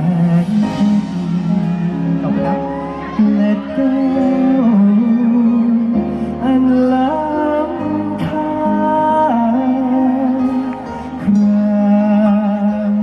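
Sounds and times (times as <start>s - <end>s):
amplified backing band: 0.0s - 13.0s
man singing into a microphone: 0.0s - 13.0s.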